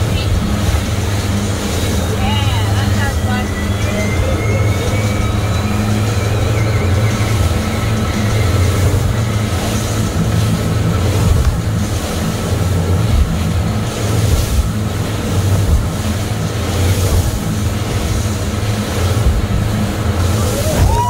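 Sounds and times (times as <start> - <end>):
outboard motors droning: 0.0 - 21.0
water rushing past a hull: 0.0 - 21.0
wind buffeting microphone: 0.0 - 21.0.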